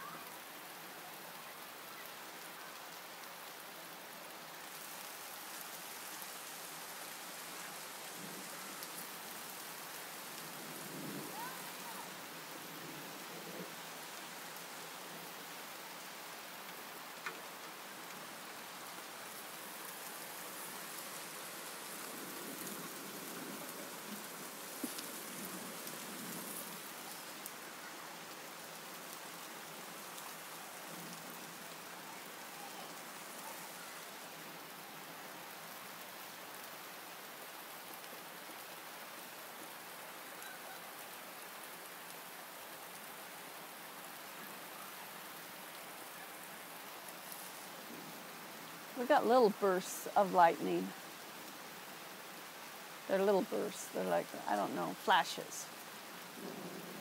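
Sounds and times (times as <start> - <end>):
rain falling on grass and pavement: 0.0 - 57.0.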